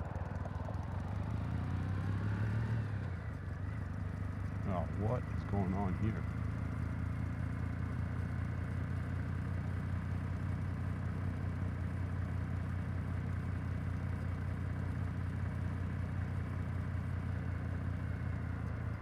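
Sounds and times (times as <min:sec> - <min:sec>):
motorcycle engine idling: 0:00.0 - 0:02.2, 0:02.9 - 0:19.0.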